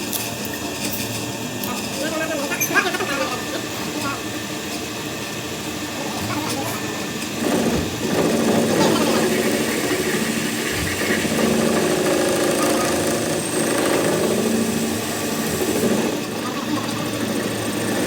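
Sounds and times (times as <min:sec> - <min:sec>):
workshop machine humming: 0:00.0 - 0:18.0.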